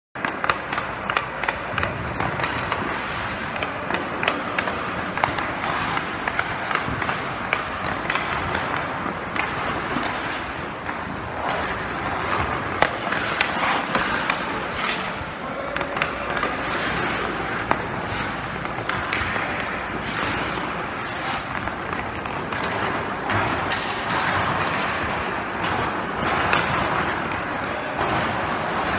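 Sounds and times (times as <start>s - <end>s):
hockey sticks clacking on pucks: 0.2s - 28.9s
skate blades scraping ice: 0.2s - 28.9s.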